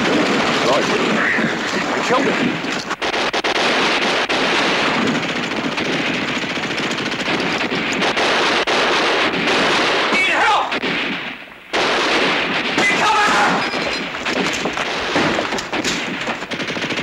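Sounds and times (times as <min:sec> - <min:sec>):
machine-gun and rifle fire: 0:00.0 - 0:17.0.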